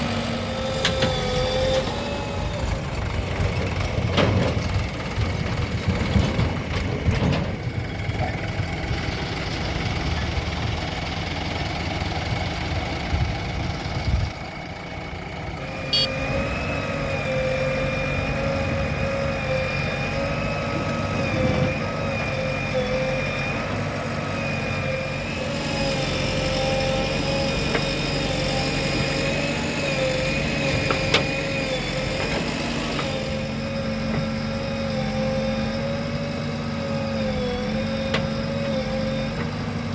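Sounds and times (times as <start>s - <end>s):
diesel engines rumbling: 0.0s - 39.9s.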